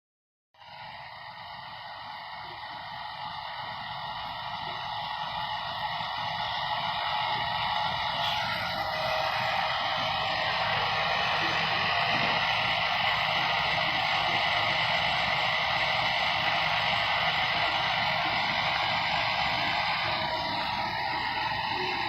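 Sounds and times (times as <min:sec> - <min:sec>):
hair dryer running: 0:00.6 - 0:22.0.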